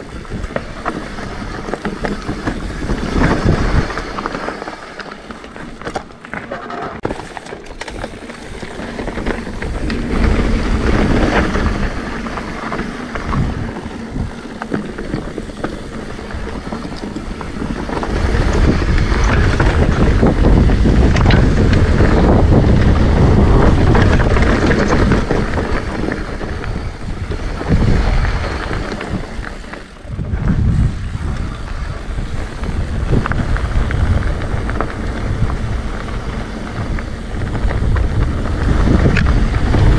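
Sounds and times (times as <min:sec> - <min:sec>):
wind rushing over microphone: 0:00.0 - 0:05.4, 0:07.9 - 0:39.9
bike tyres rolling on gravel: 0:00.0 - 0:39.9.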